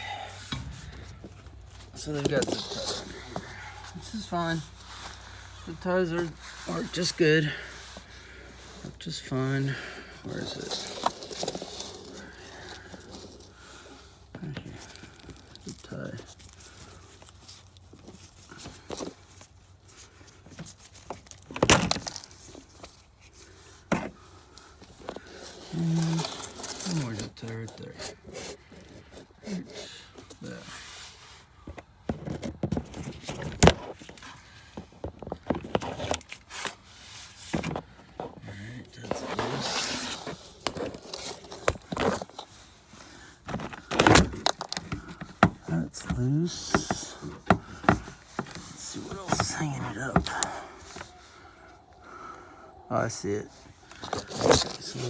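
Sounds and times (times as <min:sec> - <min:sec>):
scraping and rustling: 0:00.0 - 0:52.3, 0:53.1 - 0:55.0.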